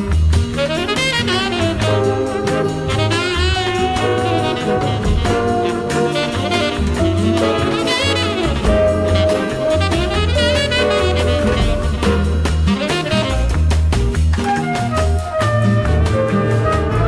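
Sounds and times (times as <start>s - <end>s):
jazzy easy-listening music: 0.0s - 17.0s.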